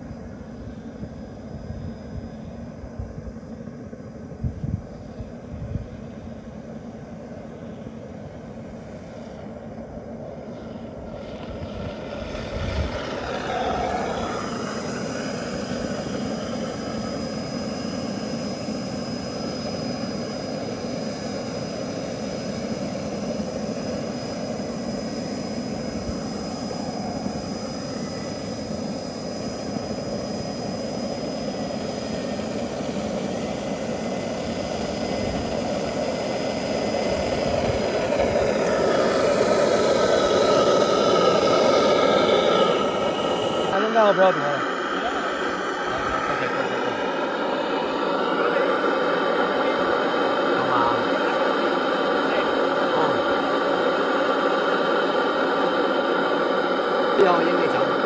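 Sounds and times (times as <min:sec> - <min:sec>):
model plane propeller noise: 0:00.0 - 0:58.0
turbine whine: 0:00.0 - 0:58.0.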